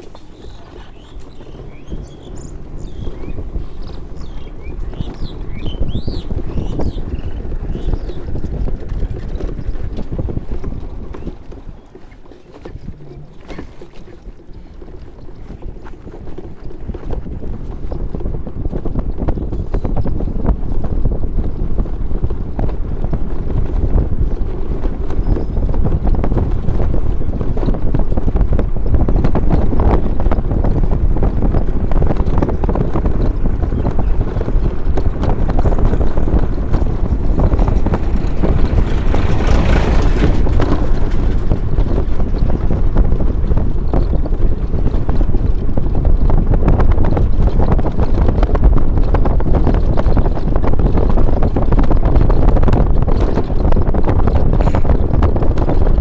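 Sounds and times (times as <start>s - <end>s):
small knocks and rattles: 0.0s - 56.0s
vehicle rumbling on rough road: 0.0s - 56.0s
wind buffeting microphone: 0.0s - 56.0s.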